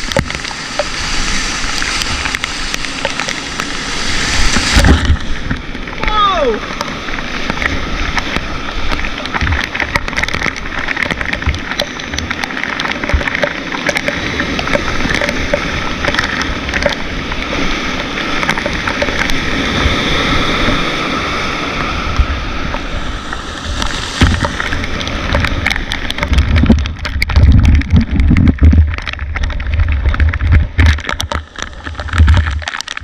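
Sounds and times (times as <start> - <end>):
rushing river water: 0.0 - 33.0.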